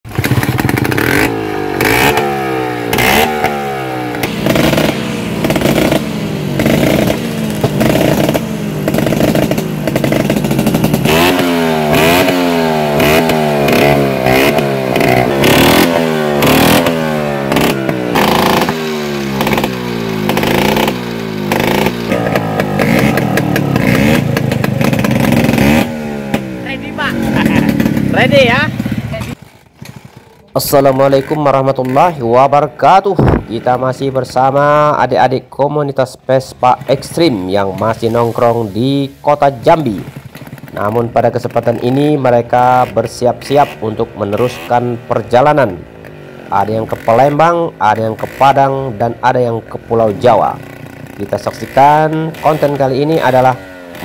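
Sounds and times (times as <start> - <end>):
scooter engine revving: 0.0 - 35.5, 36.2 - 54.0.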